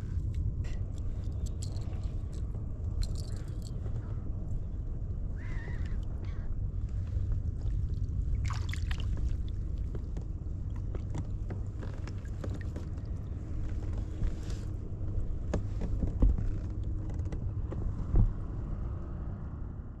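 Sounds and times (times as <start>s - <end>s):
steady low rumble of water: 0.0s - 20.0s.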